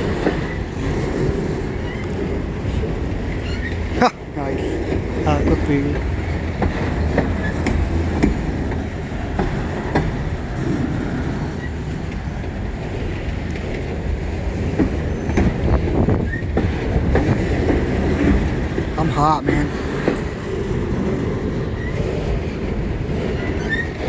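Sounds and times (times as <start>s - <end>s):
steel wheels rumbling on rail: 0.0s - 24.0s.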